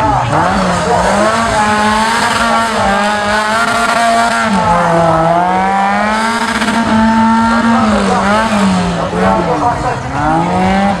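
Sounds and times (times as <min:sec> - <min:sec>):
vehicle engine running hard: 0:00.0 - 0:11.0.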